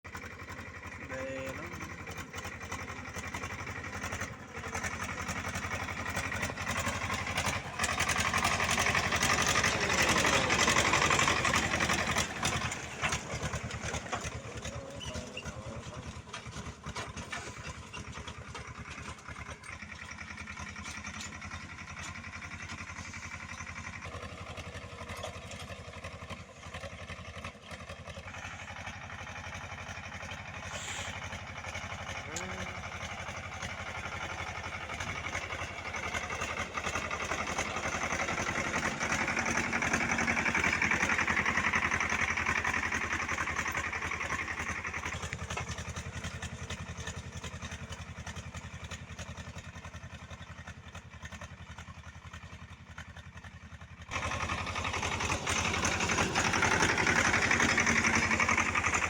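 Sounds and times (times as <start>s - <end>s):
tractor engine chugging: 0.0s - 59.0s.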